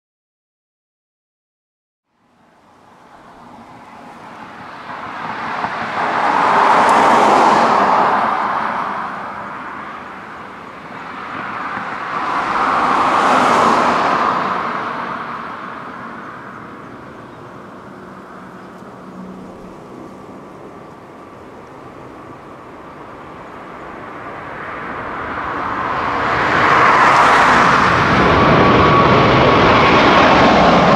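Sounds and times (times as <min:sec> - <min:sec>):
vehicles passing: 0:02.2 - 0:30.9
distant jet rumble: 0:02.6 - 0:30.9.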